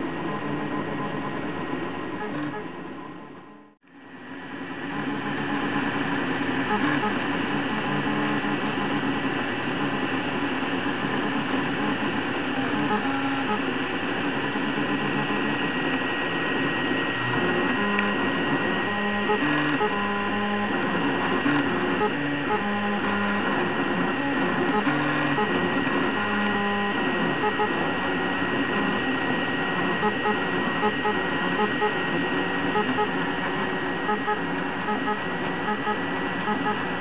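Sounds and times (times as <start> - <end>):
cooling fans whirring: 0.0 - 37.0.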